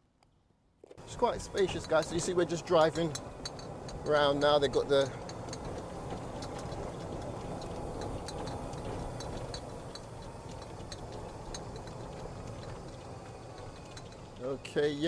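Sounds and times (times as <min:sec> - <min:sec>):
golf cart motor and tyres: 0:00.8 - 0:15.0
light ticks and rattles: 0:01.0 - 0:15.0.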